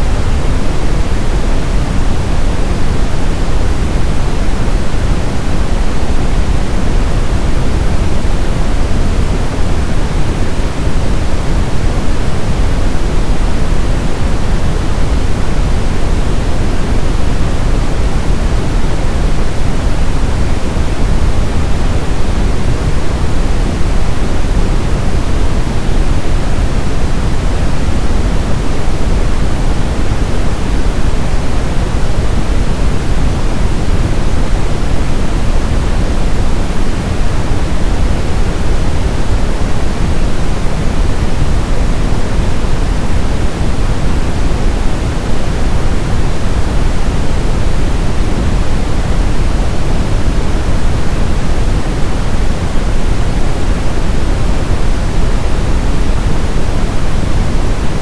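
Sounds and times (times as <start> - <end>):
deep steady hiss: 0.0 - 58.0.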